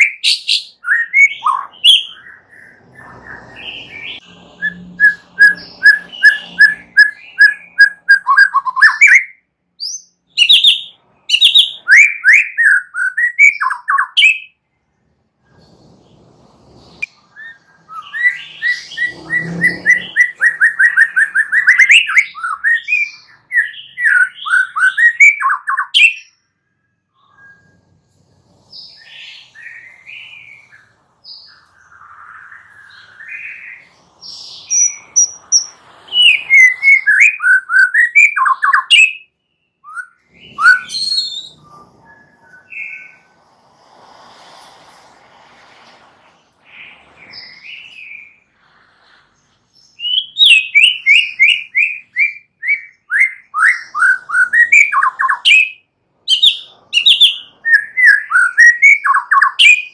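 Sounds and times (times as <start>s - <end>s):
bird singing whistled trills: 0.0s - 14.6s, 17.3s - 26.4s, 27.1s - 27.8s, 28.7s - 43.4s, 49.8s - 59.9s.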